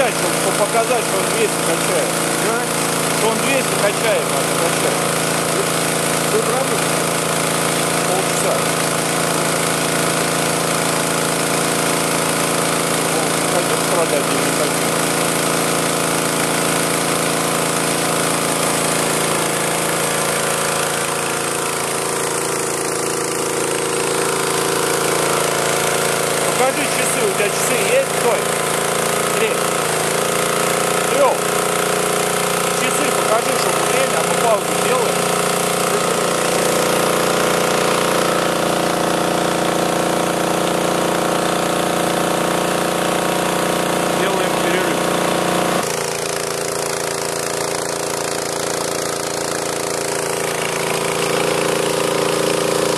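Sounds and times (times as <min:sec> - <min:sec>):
air compressor engine drone: 0:00.0 - 0:52.9.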